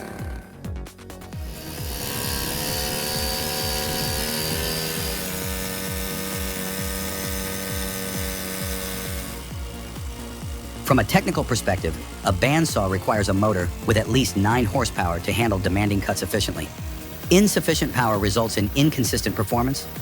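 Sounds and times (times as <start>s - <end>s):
background music with beat: 0.0s - 20.0s
machine motor running: 0.0s - 20.0s.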